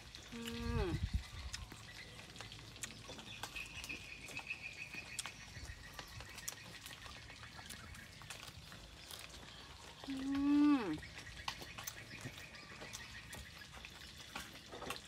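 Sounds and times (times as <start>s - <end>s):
faint rural outdoor background: 0.0s - 15.0s.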